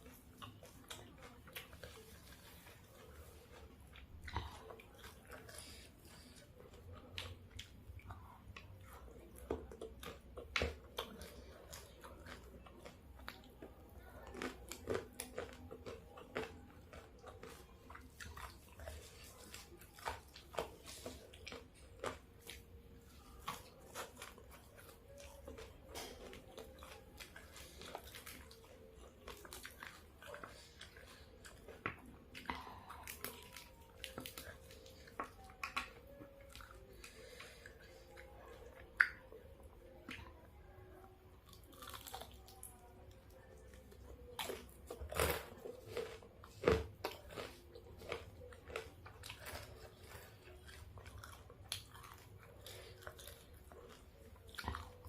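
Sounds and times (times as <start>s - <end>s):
biting and chewing food: 0.0s - 55.0s
food crunching: 0.0s - 55.0s.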